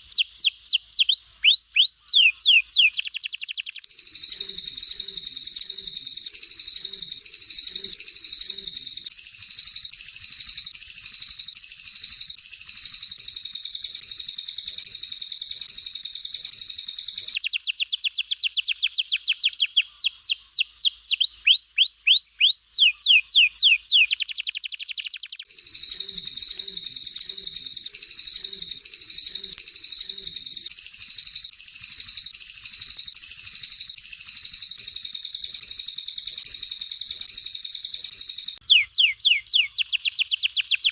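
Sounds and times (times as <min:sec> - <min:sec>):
rapid high-pitched bird chattering: 0:00.0 - 0:40.9.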